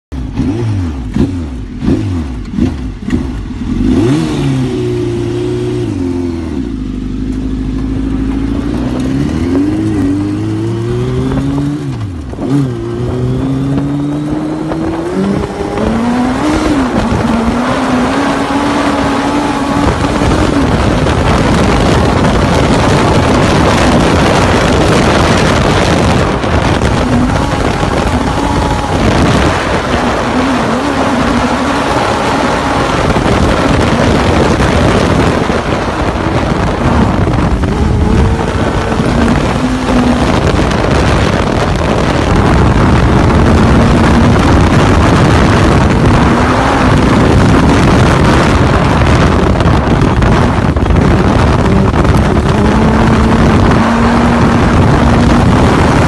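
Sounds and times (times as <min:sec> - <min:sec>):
buggy engine revving: 0:00.1 - 0:56.0
wind rushing: 0:07.6 - 0:56.0.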